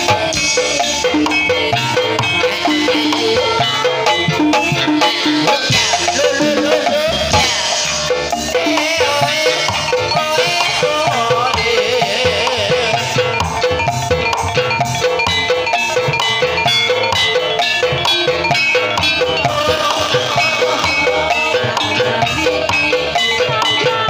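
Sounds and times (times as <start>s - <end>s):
drums: 0.0s - 24.0s
struck keyed percussion: 0.0s - 24.0s.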